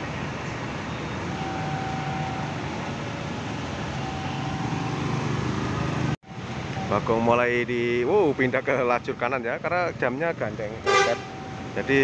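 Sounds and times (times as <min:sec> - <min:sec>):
bus diesel engines rumbling: 0:00.0 - 0:12.0.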